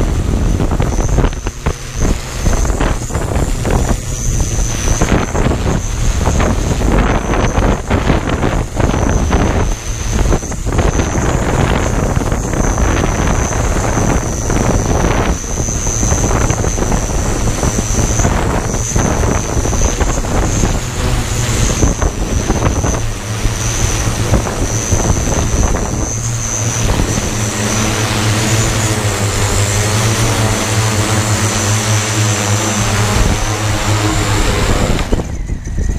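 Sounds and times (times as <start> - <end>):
drone propellers whining: 0.0 - 35.9
wind buffeting microphone: 0.0 - 35.9.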